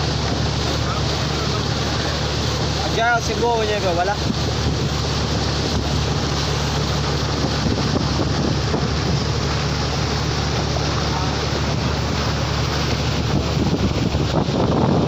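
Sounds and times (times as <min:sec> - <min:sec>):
boat engine running: 0:00.0 - 0:15.0
water along hull: 0:00.0 - 0:15.0
wind on microphone: 0:00.0 - 0:15.0.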